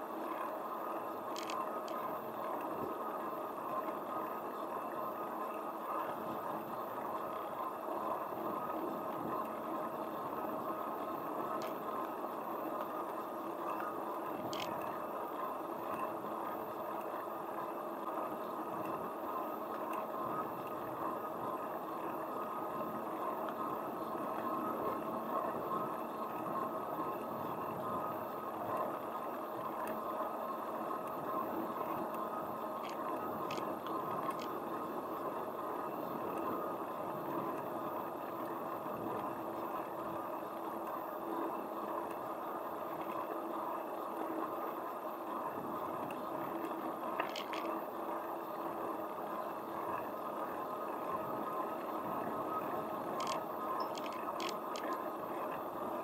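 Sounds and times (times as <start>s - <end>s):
wheels rolling on asphalt: 0.0s - 56.0s
faint clicks: 0.2s - 56.0s.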